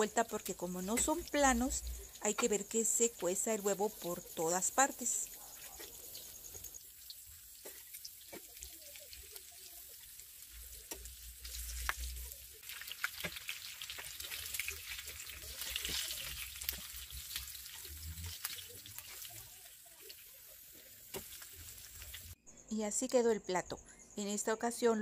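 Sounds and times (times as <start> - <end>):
chicken sizzling in oil: 0.0 - 22.4.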